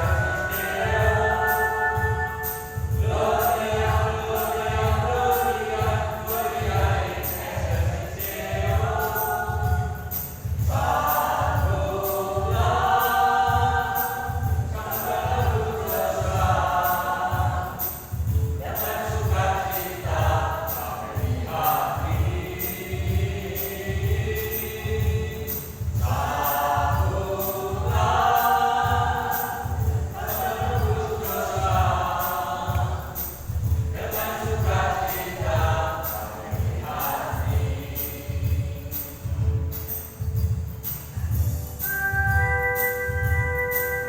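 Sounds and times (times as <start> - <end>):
choir singing: 0.0 - 39.9
steady beat accompaniment: 0.0 - 44.0.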